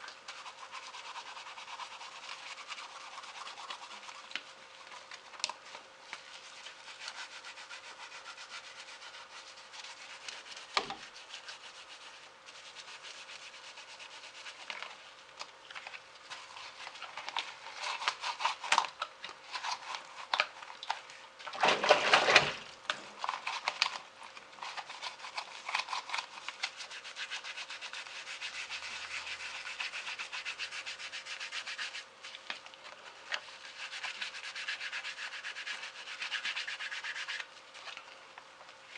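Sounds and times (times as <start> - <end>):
scrubbing fan blades: 0.0 - 38.0.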